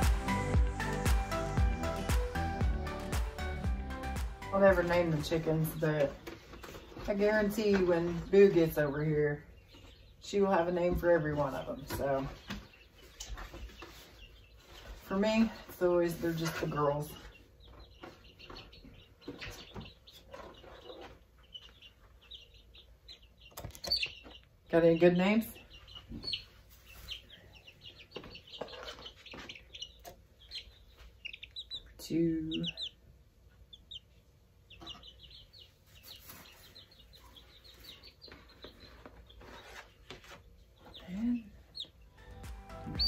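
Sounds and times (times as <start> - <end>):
chicks peeping: 0.0 - 43.0
light rustling of handled chicks: 4.6 - 43.0.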